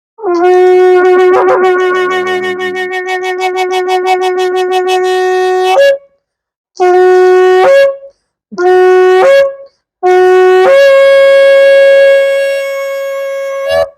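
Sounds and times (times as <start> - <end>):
shofar blasts: 0.2 - 6.0, 6.8 - 8.0, 8.6 - 13.9.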